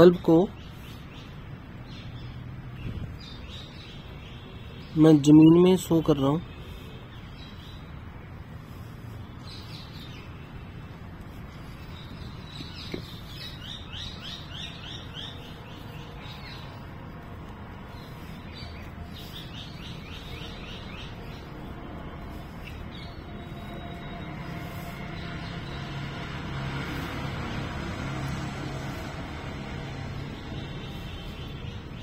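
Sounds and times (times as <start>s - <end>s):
songbird chirping: 0.0s - 32.0s.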